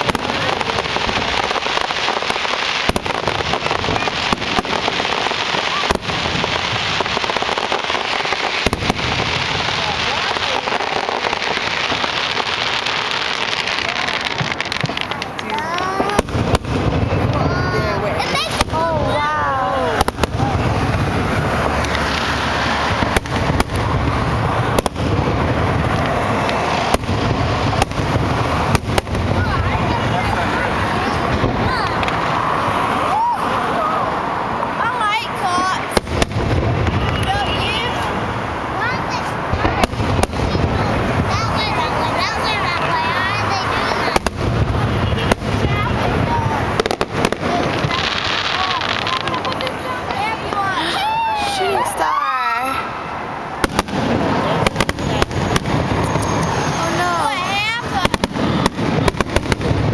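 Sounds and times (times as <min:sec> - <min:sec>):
fireworks bangs: 0:00.0 - 0:59.9
fireworks crackling: 0:00.0 - 0:59.9.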